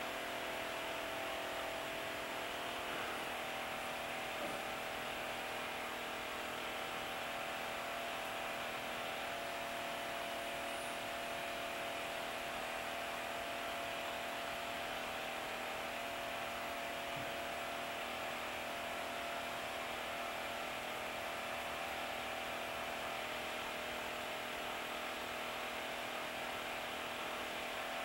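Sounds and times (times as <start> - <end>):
steady hum and hiss: 0.0 - 28.0.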